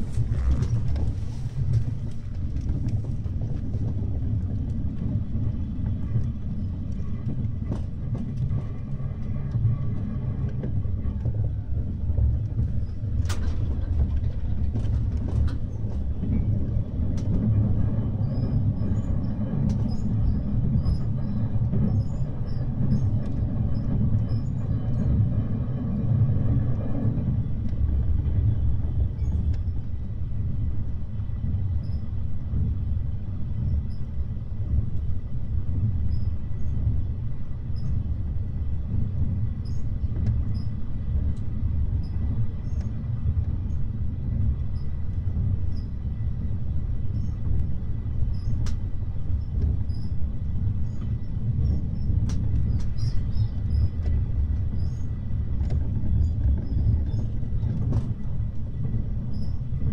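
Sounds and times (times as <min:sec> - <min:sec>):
low rumble of train wheels: 0:00.0 - 0:59.9.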